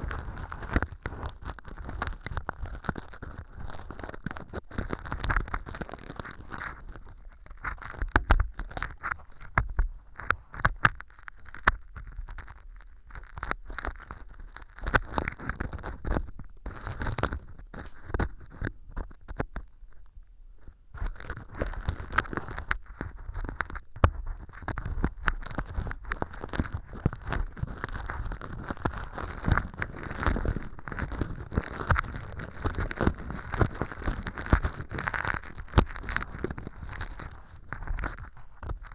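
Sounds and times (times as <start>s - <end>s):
ear pick scraping crackles: 0.0s - 38.9s.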